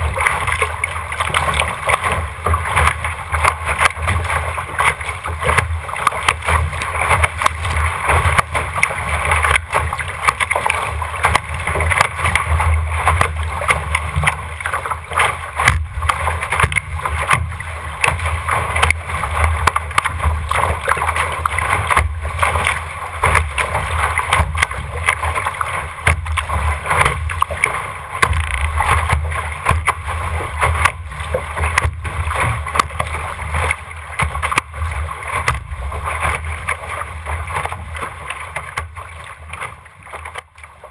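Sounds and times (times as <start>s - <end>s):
water rushing along hull: 0.0s - 40.9s
waves slapping bow: 0.0s - 40.9s.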